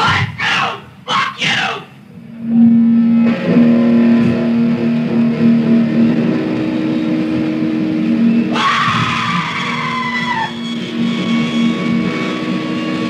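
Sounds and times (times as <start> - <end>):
punk band noise: 0.0 - 2.0, 3.2 - 13.0
distorted electric guitar drone: 2.0 - 13.0.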